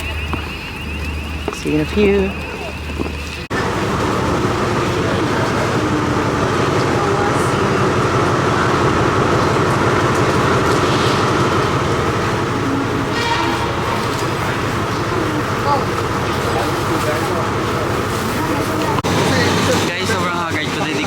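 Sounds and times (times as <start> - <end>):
faint voices: 0.0 - 21.0
train rumbling: 0.0 - 21.0.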